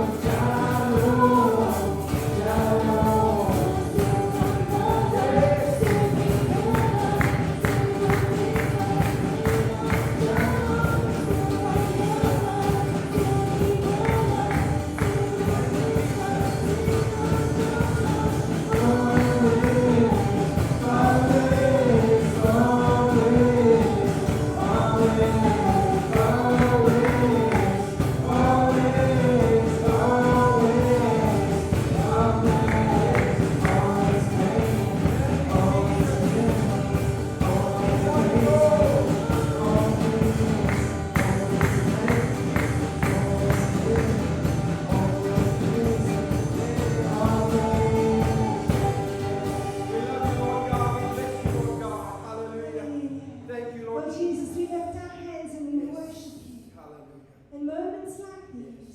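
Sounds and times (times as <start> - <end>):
tambourine shaking: 0.0 - 51.9
people singing: 0.0 - 53.8
gospel band playing: 0.0 - 55.7.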